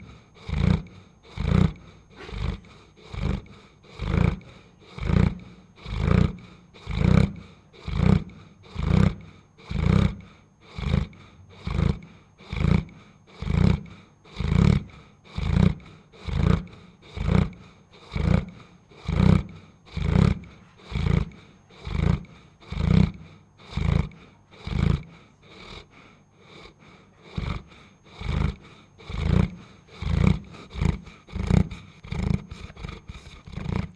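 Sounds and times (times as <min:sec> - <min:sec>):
dog snoring: 0:00.0 - 0:33.9.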